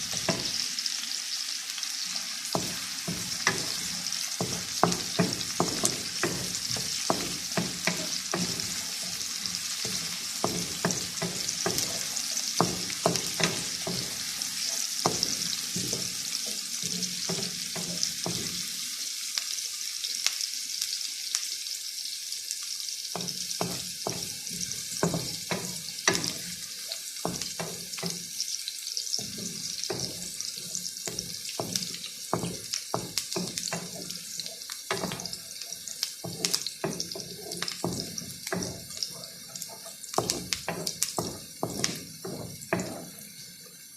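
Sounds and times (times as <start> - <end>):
spatula knocking against pan: 0.0 - 0.6, 2.5 - 18.6, 23.2 - 28.3, 29.2 - 43.2
onions sizzling in a pan: 0.0 - 43.9.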